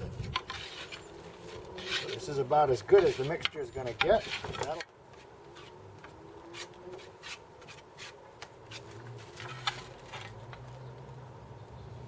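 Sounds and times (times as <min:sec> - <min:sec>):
spreader scraping filler: 0:00.3 - 0:10.4.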